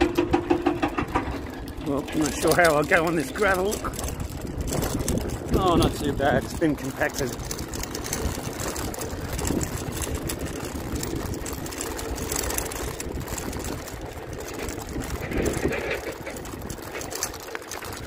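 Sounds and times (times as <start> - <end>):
tyres crunching on gravel: 0.0 - 18.0
wind buffeting microphone: 0.0 - 18.0.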